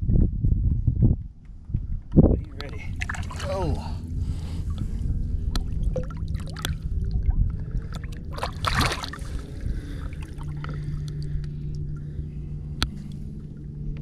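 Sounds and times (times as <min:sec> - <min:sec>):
steady low hum: 0:00.0 - 0:14.0
water splashing against boat: 0:02.4 - 0:14.0.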